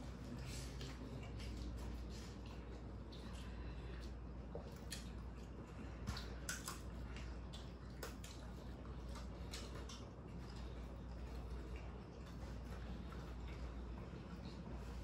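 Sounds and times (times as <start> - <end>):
chewing and mouth smacking: 0.0 - 15.0.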